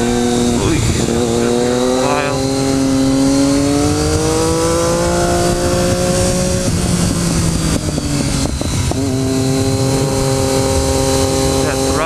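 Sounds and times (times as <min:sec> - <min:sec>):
motorcycle engine accelerating: 0:00.0 - 0:12.0
wind rush: 0:00.0 - 0:12.0.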